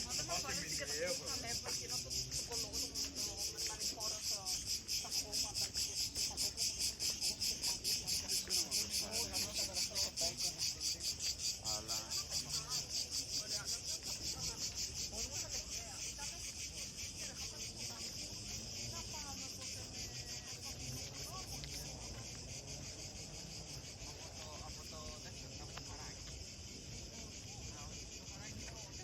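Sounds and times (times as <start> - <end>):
faint voices of people: 0.0 - 29.0
insects pulsing song: 0.0 - 29.0.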